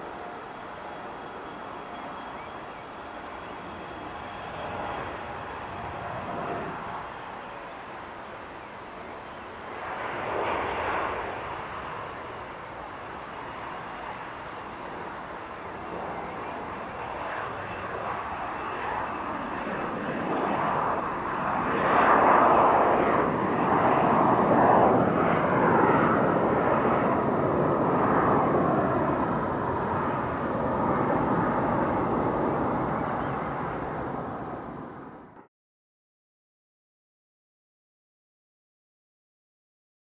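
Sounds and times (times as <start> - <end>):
jet engine roar: 0.0 - 35.5.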